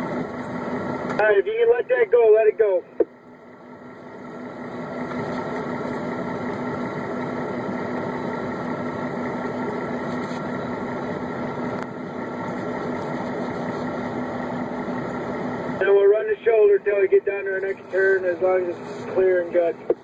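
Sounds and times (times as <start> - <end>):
road and wind noise: 0.0 - 20.0
truck engine drone: 0.0 - 20.0.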